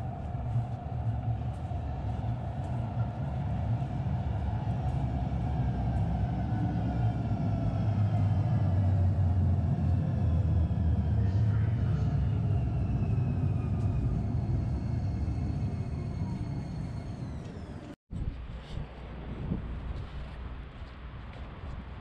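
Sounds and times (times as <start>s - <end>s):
light-rail train rumbling: 0.0s - 22.0s.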